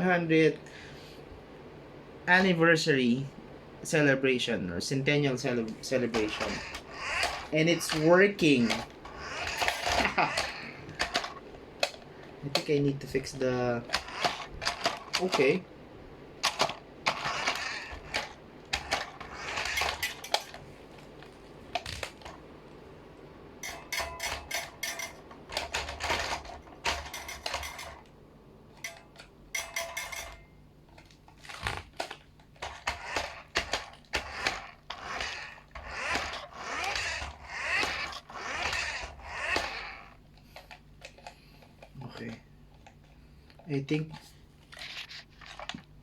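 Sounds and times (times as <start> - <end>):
hard plastic clicking and clattering: 5.6 - 15.6, 16.4 - 22.4, 23.6 - 28.2, 28.8 - 46.0.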